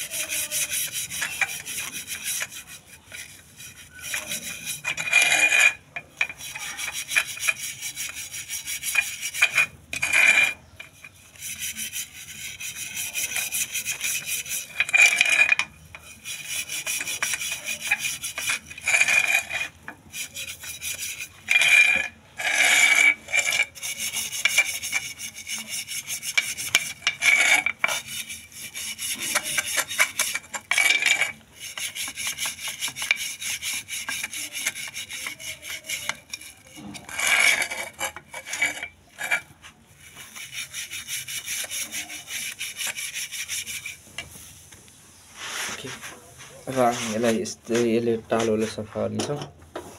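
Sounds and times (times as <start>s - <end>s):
scrubbing metal stove supports: 0.0s - 44.5s.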